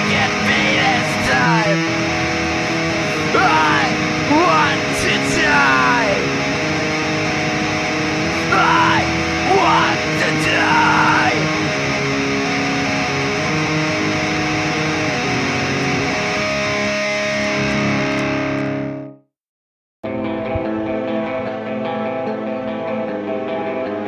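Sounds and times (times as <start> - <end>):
rock music with electric guitar: 0.0 - 19.2, 20.0 - 24.0.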